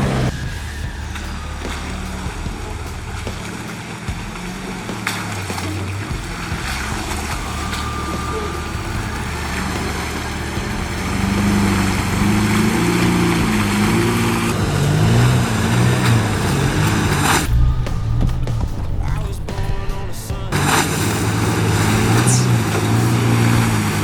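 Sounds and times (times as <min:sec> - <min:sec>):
road and wind noise: 0:00.0 - 0:24.0
shifting low tones: 0:00.0 - 0:24.0
vehicle engine rumble: 0:00.0 - 0:24.0.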